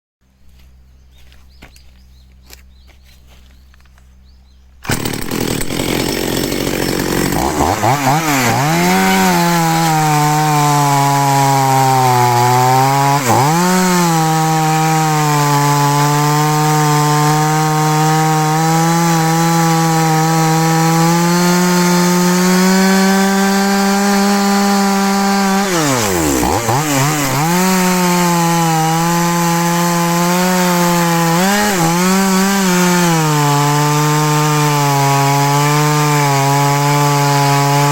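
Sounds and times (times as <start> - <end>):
chainsaw engine buzzing: 4.8 - 37.9.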